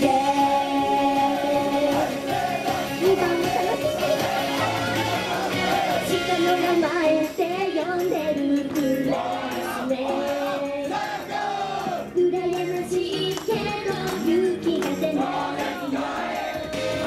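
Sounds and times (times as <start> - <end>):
pop backing track: 0.0 - 17.0
women singing together: 0.0 - 17.0.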